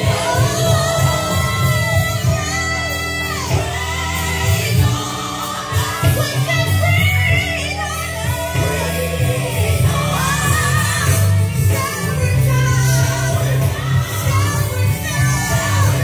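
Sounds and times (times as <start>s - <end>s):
worship song with band: 0.0s - 16.0s.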